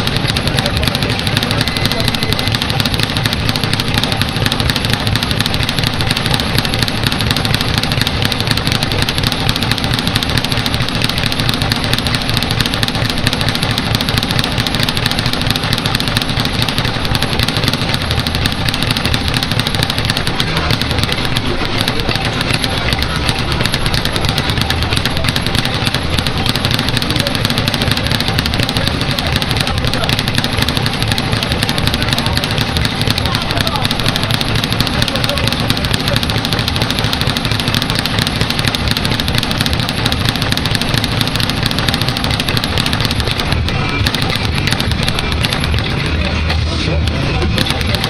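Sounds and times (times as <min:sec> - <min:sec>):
speed bag rattling: 0:00.0 - 0:48.0.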